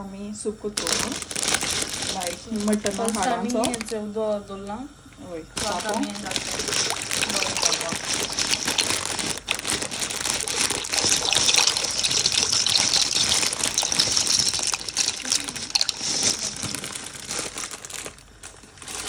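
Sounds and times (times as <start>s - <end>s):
water gushing into vessel: 0.8s - 3.9s, 5.6s - 18.4s.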